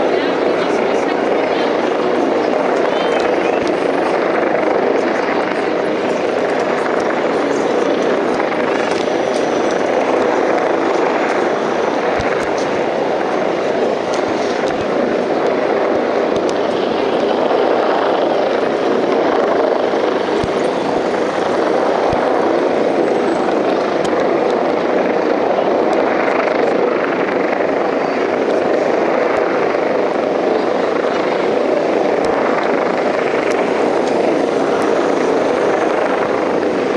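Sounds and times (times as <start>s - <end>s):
helicopter rotor and turbine: 0.0s - 36.9s.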